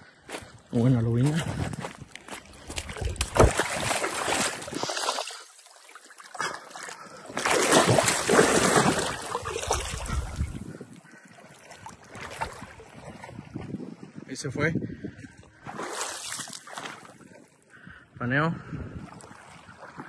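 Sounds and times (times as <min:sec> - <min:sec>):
water splashing and sloshing: 0:00.4 - 0:14.2, 0:15.0 - 0:18.0, 0:18.6 - 0:20.0.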